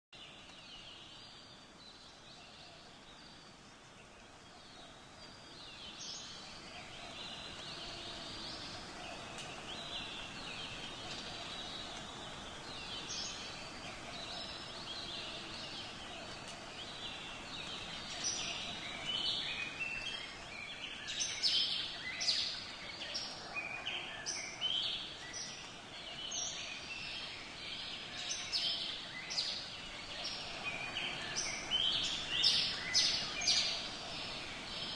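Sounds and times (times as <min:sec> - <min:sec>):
faint steady hiss: 0:00.2 - 0:34.9
small birds chirping: 0:00.2 - 0:34.9.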